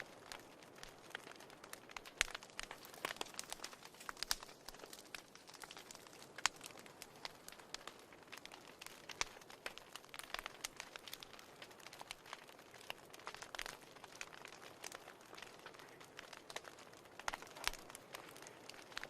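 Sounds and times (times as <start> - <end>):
sharp pops of fire: 0.0 - 19.0
soft hiss of flames: 0.0 - 19.0
wood fire crackling: 0.0 - 19.0.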